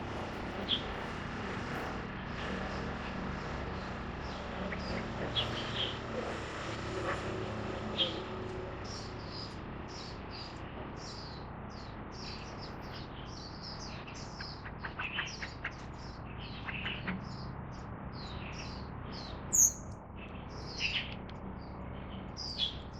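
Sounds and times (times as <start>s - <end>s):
birds chirping: 0.0s - 6.6s, 7.7s - 22.9s.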